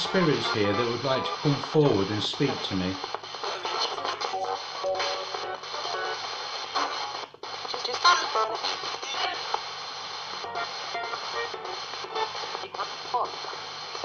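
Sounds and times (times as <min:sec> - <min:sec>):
radio sweeping stations: 0:00.0 - 0:14.0
radio voices: 0:00.0 - 0:14.0
snippets of broadcast music: 0:00.0 - 0:14.0.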